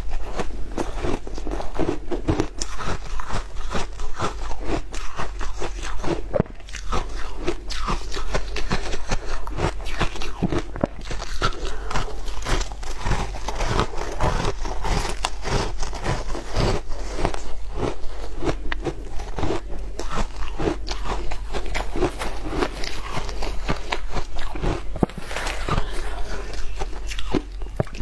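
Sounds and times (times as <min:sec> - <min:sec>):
person crunching ice: 0:00.1 - 0:28.0.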